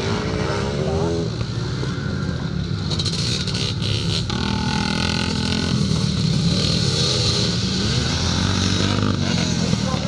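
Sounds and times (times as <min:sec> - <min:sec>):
motocross bikes racing: 0:00.0 - 0:10.0.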